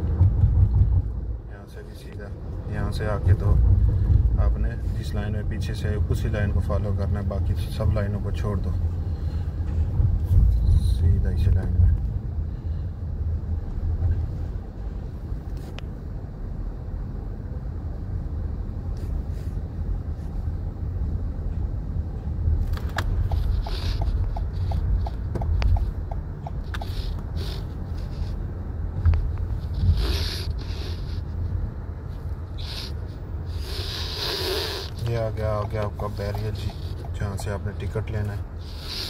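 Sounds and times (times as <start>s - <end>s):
car cabin road rumble: 0.0s - 39.0s.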